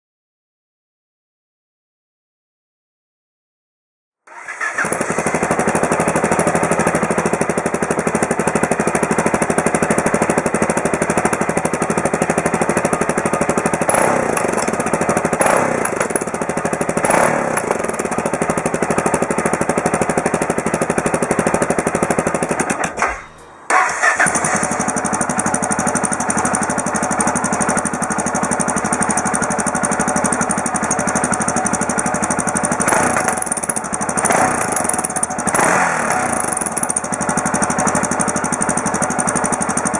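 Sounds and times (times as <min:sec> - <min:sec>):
motorcycle engine idling: 0:04.6 - 0:39.9
motorcycle throttle blips: 0:07.6 - 0:39.7.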